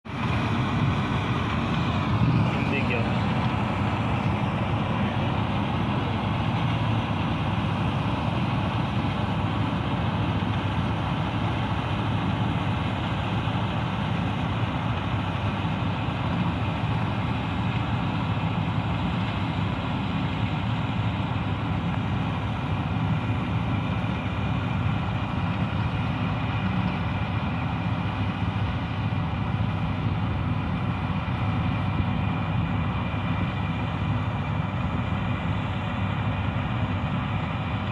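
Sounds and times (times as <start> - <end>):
diesel engine drone: 0.0 - 37.9.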